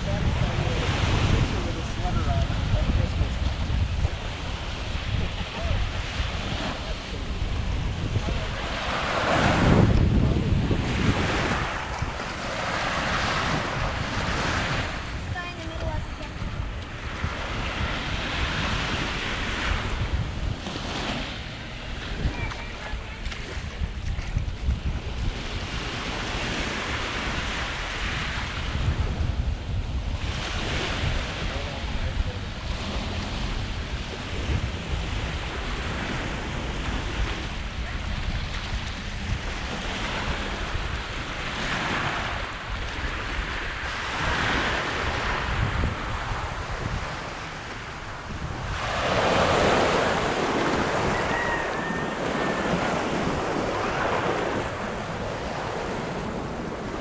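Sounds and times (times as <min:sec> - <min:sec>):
waves breaking on a beach: 0:00.0 - 0:57.0
wind buffeting microphone: 0:00.0 - 0:57.0.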